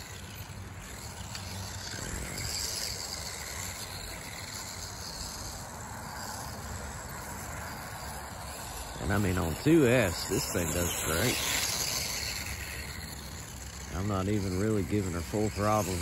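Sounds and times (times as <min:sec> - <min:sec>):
electric motor whir: 0:00.0 - 0:16.0
outdoor background noise: 0:00.0 - 0:16.0.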